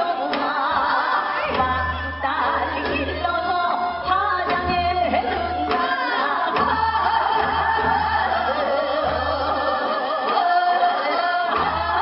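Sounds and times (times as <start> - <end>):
traditional instruments: 0.0 - 12.0
women singing with vibrato: 0.0 - 12.0.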